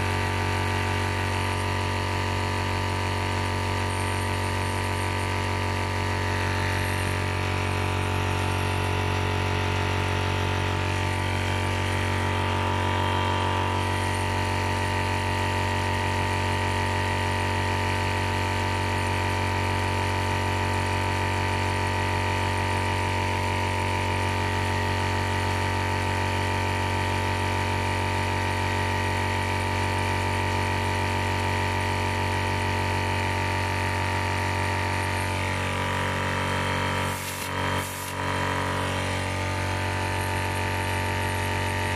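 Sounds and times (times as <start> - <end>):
air compressor running: 0.0 - 41.9.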